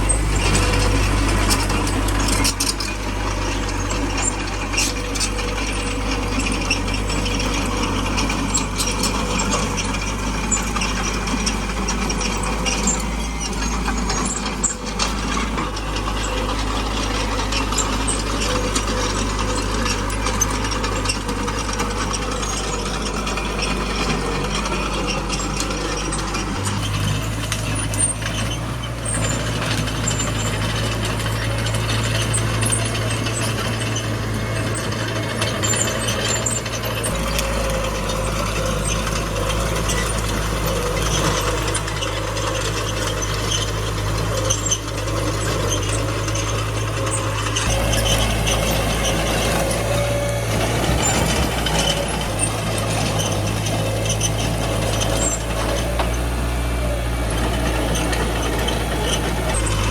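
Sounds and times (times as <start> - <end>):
bulldozer diesel engine running: 0.0 - 59.9
metallic rattle and clank: 0.0 - 59.9.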